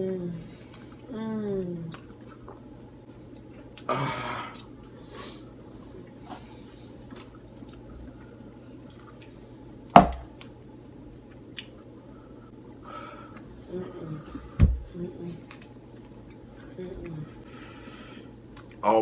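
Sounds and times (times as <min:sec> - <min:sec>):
low hum: 0:00.0 - 0:18.8.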